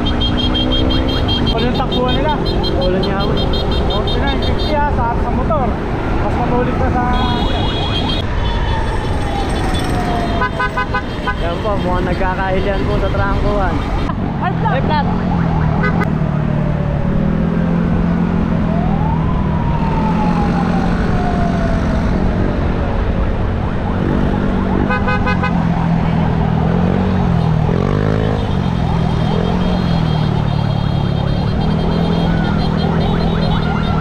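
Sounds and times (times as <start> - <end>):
siren wailing: 5.8 - 34.0.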